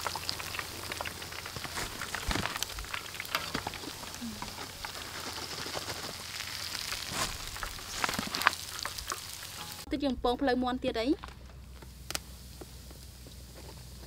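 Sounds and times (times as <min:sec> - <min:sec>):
hot oil sizzling in a wok: 0:00.0 - 0:09.9, 0:11.7 - 0:14.0.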